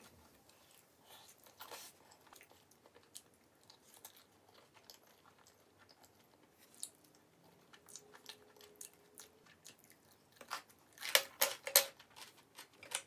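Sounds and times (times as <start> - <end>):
soft chewing: 0.0 - 11.2.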